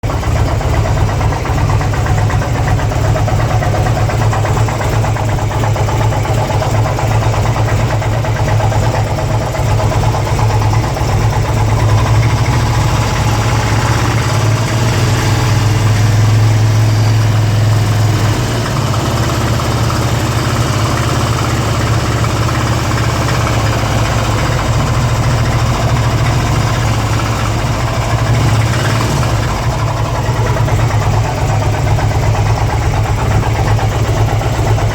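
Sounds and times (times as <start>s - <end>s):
motorcycle engine idling: 0.0s - 34.9s
strange engine noise: 0.0s - 34.9s.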